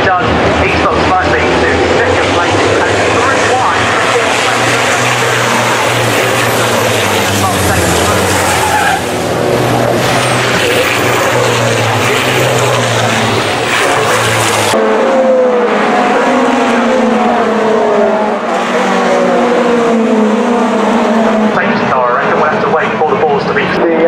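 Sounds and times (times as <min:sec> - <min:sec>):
race car engines passing: 0:00.0 - 0:24.0
truck diesel engine droning: 0:00.0 - 0:24.0.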